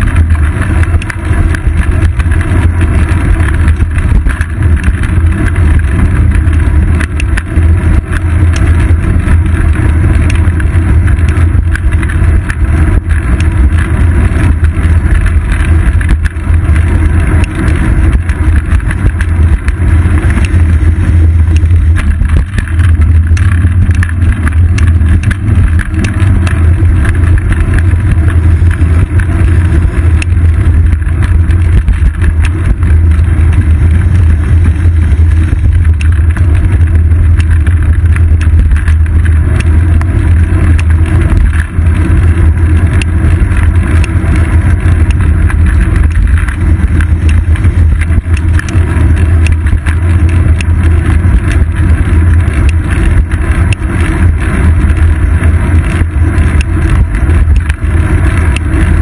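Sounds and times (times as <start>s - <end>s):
wind and road rumble: 0.0s - 59.0s.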